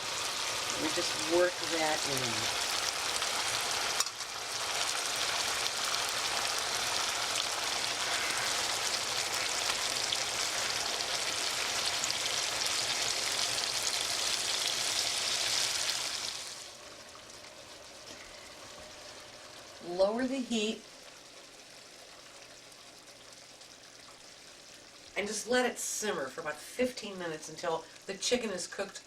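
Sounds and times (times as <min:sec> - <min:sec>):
chicken sizzling in a pan: 0:00.0 - 0:26.7.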